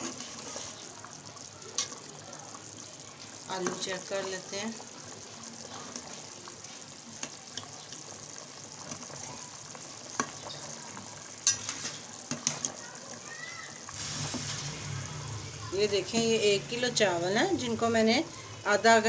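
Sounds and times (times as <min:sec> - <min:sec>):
broth boiling in a pot: 0:00.0 - 0:19.0.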